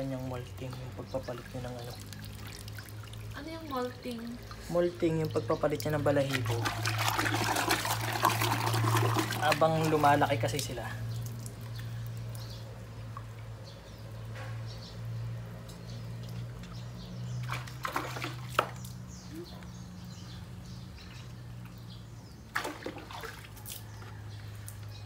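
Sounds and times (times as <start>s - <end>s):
water splashing and dripping: 0.0s - 19.7s, 20.5s - 25.0s.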